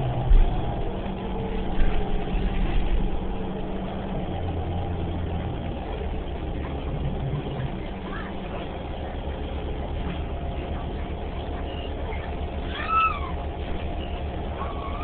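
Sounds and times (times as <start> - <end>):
bus drivetrain hum: 0.0 - 15.0
road noise: 0.0 - 15.0.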